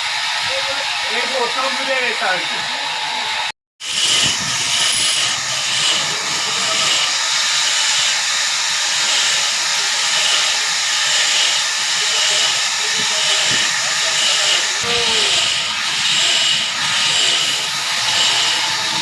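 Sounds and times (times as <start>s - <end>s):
saw cutting through log: 0.0s - 19.0s.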